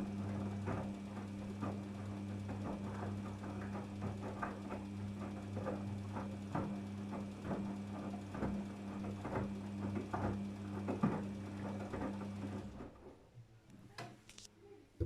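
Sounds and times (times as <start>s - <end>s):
washing machine running: 0.0s - 13.4s.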